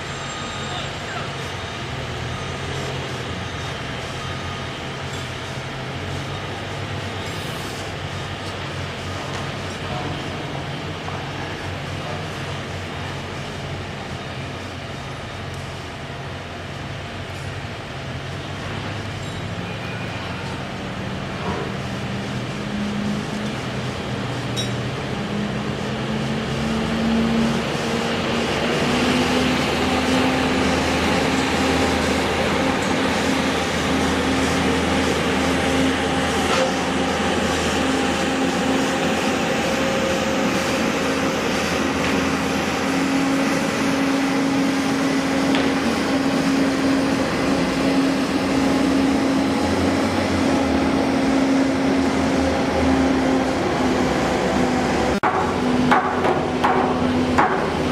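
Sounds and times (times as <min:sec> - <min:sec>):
machinery humming: 0:00.0 - 0:57.9
steady rushing noise: 0:01.4 - 0:57.9.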